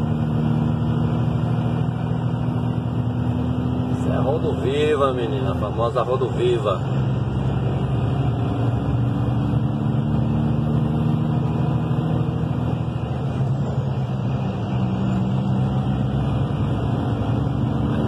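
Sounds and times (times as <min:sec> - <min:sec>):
diesel truck engine running: 0:00.0 - 0:18.0
road noise: 0:00.0 - 0:18.0.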